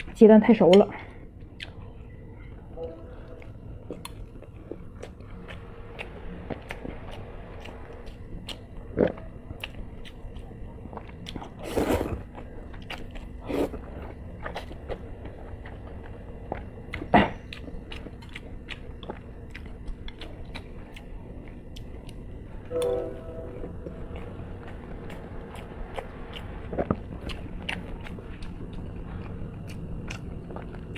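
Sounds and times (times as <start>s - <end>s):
close chewing with mouth smacks: 0.0s - 2.0s, 3.4s - 22.4s, 24.1s - 30.9s.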